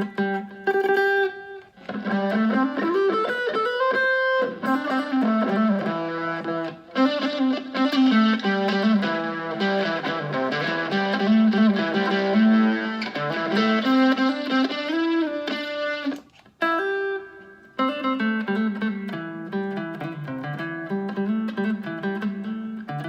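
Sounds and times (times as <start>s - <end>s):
electric guitar melody: 0.0s - 23.0s.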